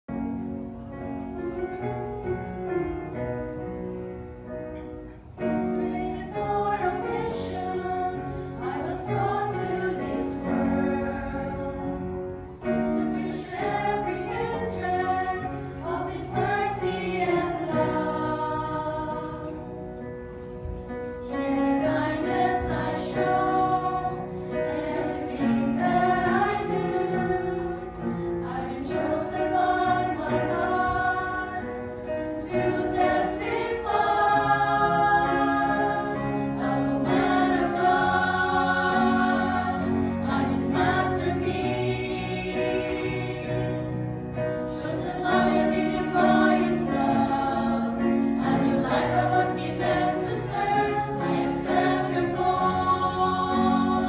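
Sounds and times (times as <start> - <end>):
women's choir singing: 5.4 - 54.0.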